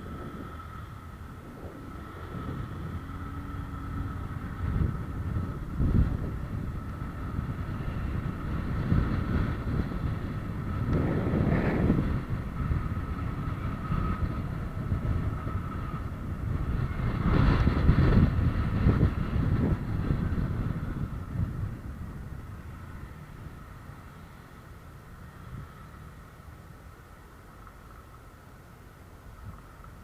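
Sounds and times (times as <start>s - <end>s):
vehicle passing: 0.0s - 26.8s
faint whine: 0.0s - 30.0s
road traffic rumble: 0.0s - 30.0s.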